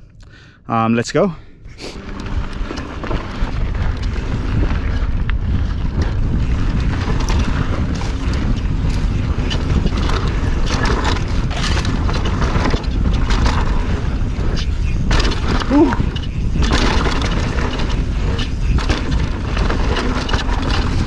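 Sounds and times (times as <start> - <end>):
wind buffeting microphone: 1.6 - 21.0
bike clattering over bumps: 2.0 - 21.0
bike tyres rolling on dirt: 2.0 - 21.0.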